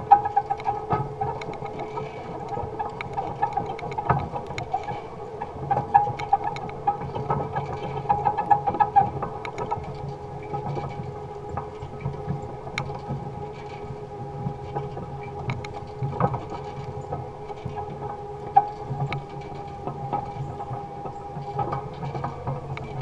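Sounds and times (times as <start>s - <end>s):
wire baskets clicking and rattling: 0.0s - 23.0s.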